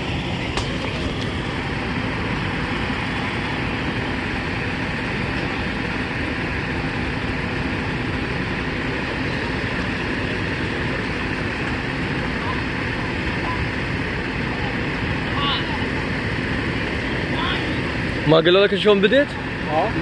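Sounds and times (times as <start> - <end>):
fire engine pump rumbling: 0.0 - 20.0.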